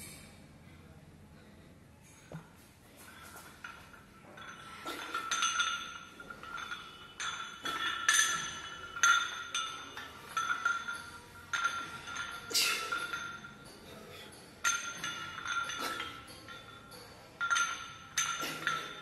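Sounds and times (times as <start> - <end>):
weight plates clinking on barbell: 3.3 - 19.0.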